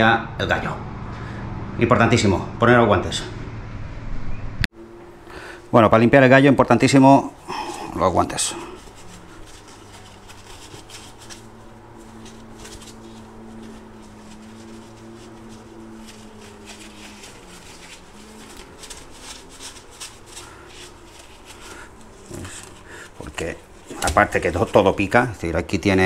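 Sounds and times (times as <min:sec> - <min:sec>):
steady low hum: 0:00.0 - 0:26.0
rubber gloves rustling: 0:04.8 - 0:26.0.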